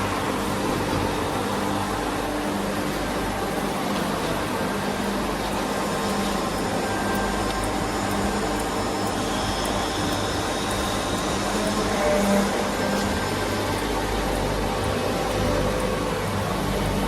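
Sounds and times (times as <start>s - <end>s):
lathe humming: 0.0s - 17.0s
faint light ticks: 0.9s - 17.0s.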